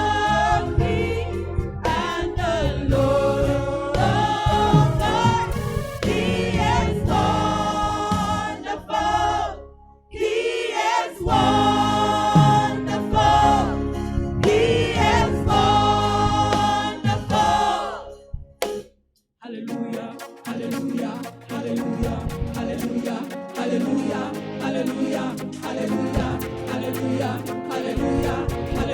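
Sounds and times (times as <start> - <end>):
choir singing a hymn: 0.0 - 18.2, 19.8 - 28.9
music: 0.0 - 19.0, 19.7 - 28.9.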